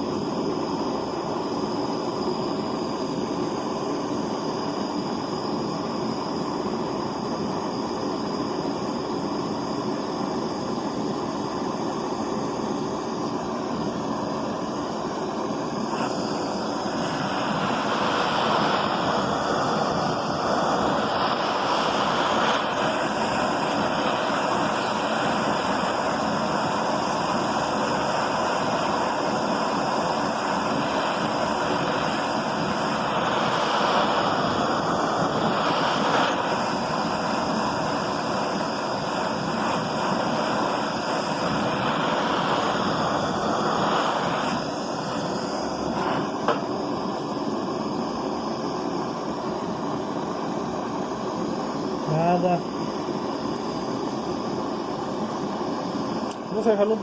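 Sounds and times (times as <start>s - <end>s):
torch flame hissing: 0.0s - 57.0s.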